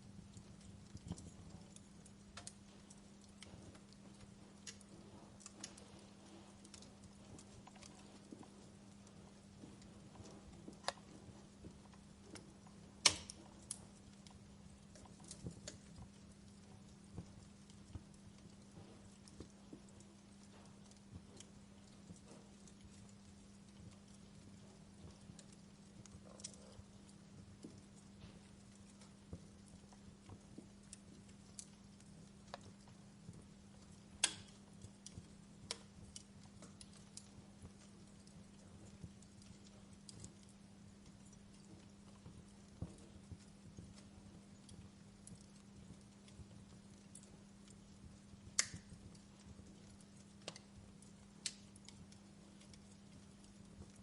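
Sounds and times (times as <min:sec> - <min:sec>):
faint steady hum: 0:00.0 - 0:54.0
wood fire crackling: 0:00.0 - 0:54.0.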